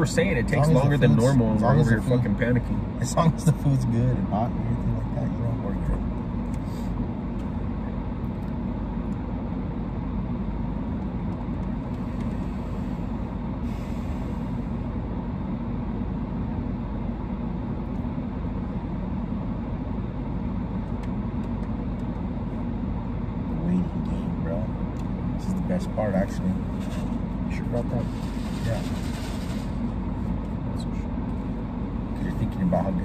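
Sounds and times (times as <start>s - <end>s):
car idling hum: 0.0s - 33.0s.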